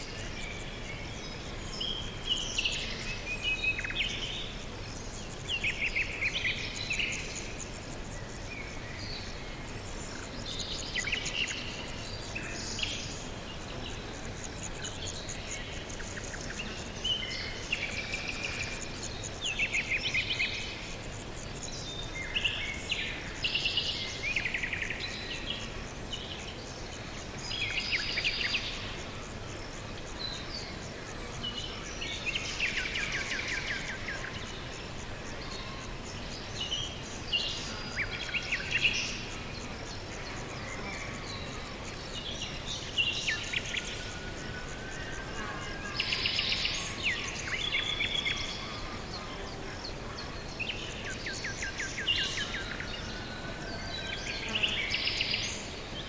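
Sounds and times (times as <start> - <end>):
songbirds chirping and trilling: 0.0 - 56.0
steady background hiss: 0.0 - 56.0.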